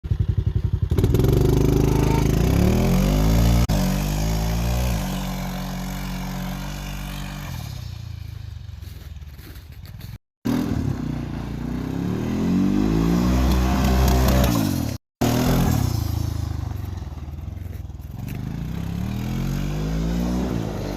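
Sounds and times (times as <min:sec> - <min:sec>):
diesel engine idling and revving: 0:00.0 - 0:20.9.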